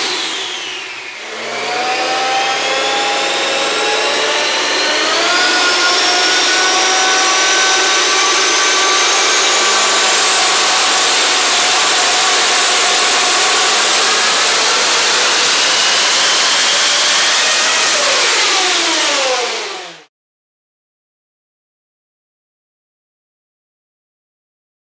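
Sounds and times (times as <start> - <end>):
whining turbo tones: 0.0 - 20.0.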